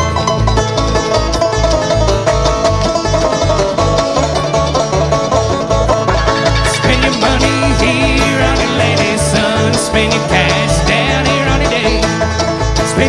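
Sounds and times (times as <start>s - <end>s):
banjo picking: 0.0s - 13.0s
bass notes: 0.0s - 13.0s
guitar: 0.0s - 13.0s.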